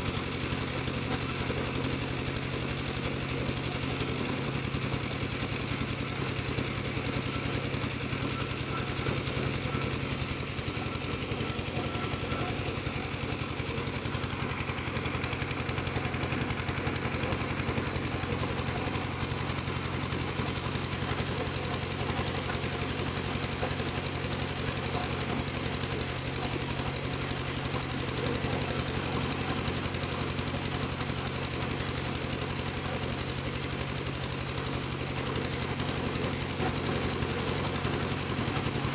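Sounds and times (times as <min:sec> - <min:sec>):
piling rig engine chugging: 0:00.0 - 0:38.9.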